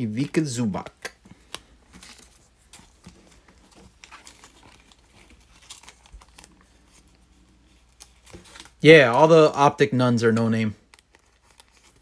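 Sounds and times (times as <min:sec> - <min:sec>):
plastic sleeve crinkling: 0:00.1 - 0:12.0.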